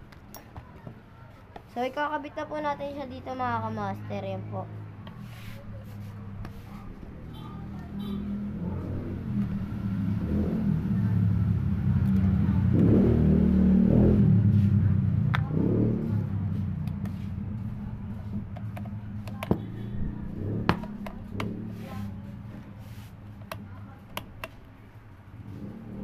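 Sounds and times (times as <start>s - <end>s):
vehicle engine passing by: 3.6s - 24.0s, 25.3s - 26.0s.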